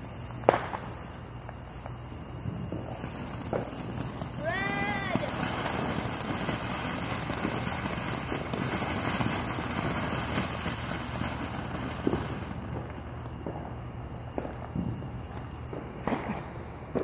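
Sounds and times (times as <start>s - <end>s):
faint firework pops: 0.0s - 17.0s
fountain firework hissing: 0.0s - 17.0s.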